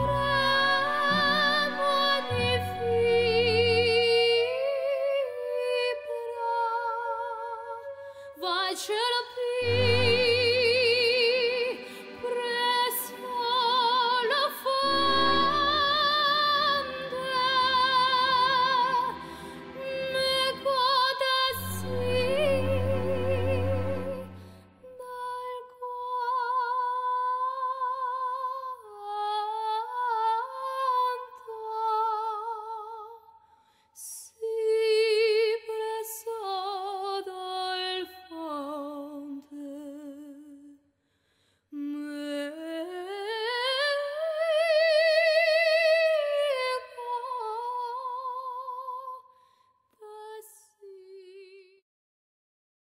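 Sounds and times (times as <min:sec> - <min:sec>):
woman singing unaccompanied: 0:00.0 - 0:33.2, 0:34.0 - 0:40.8, 0:41.8 - 0:49.2, 0:50.0 - 0:51.8.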